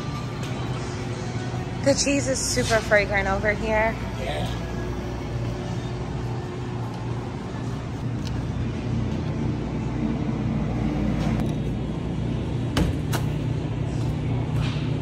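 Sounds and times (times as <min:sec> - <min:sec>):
supermarket background rumble: 0:00.0 - 0:15.0.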